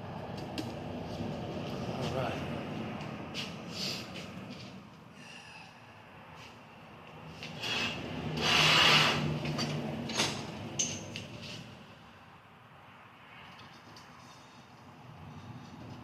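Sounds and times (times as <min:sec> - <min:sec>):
rubbing and scraping of engine parts: 0:00.4 - 0:05.1, 0:06.3 - 0:12.0, 0:13.3 - 0:16.0.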